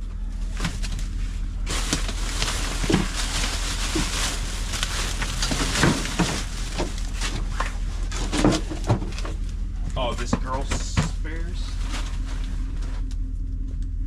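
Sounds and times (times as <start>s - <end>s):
steady low hum: 0.0s - 14.0s
boxes and bags rustling: 0.2s - 13.1s.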